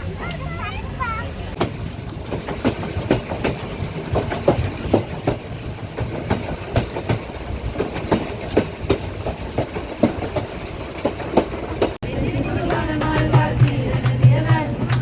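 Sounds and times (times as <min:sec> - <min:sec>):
train rumble: 0:00.0 - 0:15.0
train wheels clicking on rails: 0:00.0 - 0:15.0.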